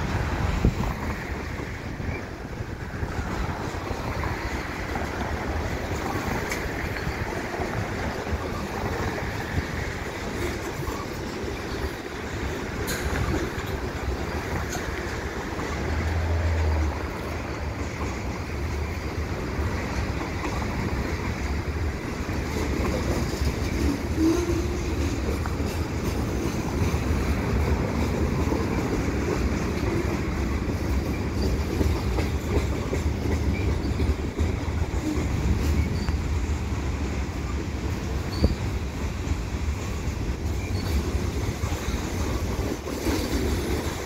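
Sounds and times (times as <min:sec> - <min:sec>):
freight train cars rolling on rails: 0:00.0 - 0:44.0.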